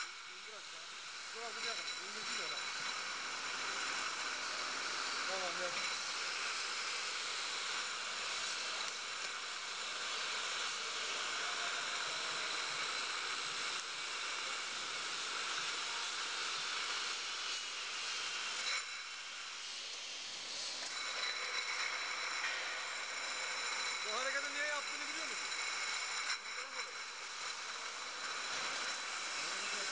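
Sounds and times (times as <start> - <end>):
machine hiss and hum: 0.0 - 29.9.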